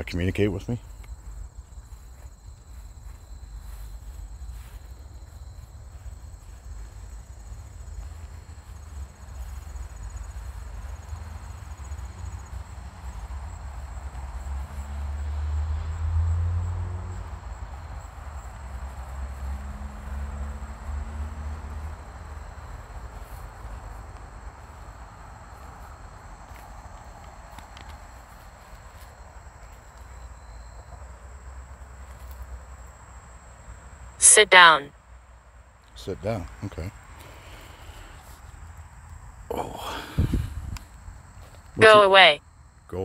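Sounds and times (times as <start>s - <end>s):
insects trilling: 0.0s - 34.2s, 35.8s - 41.8s.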